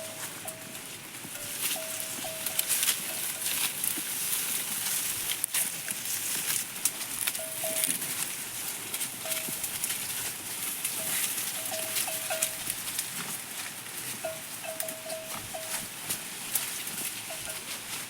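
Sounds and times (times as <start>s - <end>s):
livestock bell clanking: 0.0s - 5.0s, 7.3s - 18.0s
crackles: 0.0s - 18.0s.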